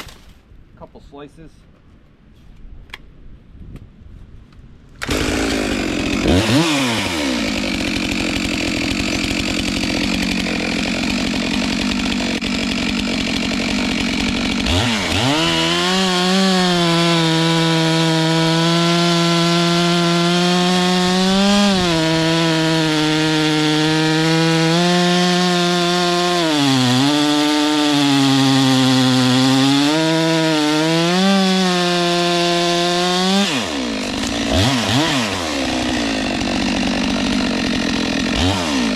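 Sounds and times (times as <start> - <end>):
chainsaw cutting log: 5.0 - 38.9.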